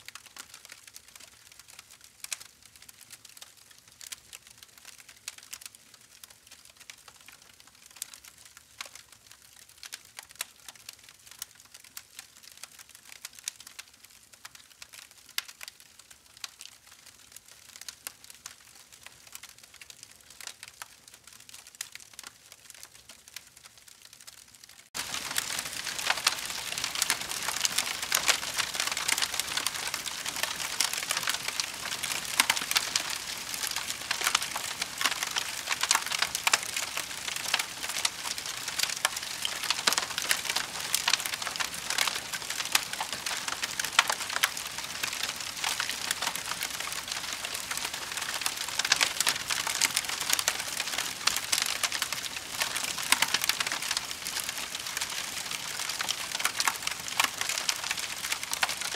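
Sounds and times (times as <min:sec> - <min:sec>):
campfire wood crackling and popping: 0:00.0 - 0:58.9.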